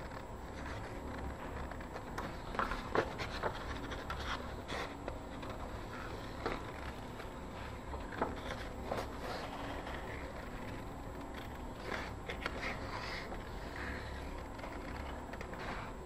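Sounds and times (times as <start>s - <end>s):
low steady hum: 0.0s - 16.0s
paper rustling: 0.0s - 16.0s.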